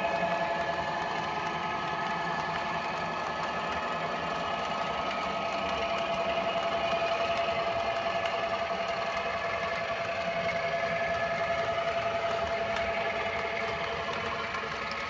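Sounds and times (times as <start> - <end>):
model locomotive humming: 0.0 - 15.0.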